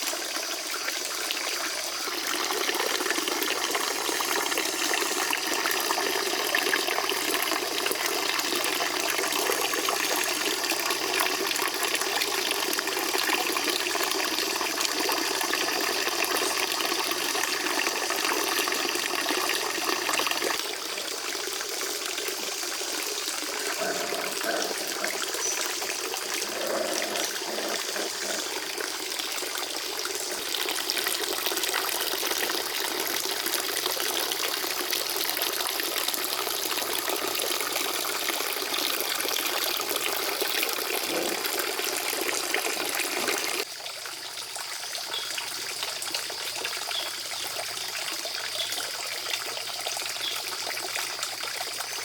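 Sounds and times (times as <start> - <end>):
water running and splashing: 0.0 - 44.4.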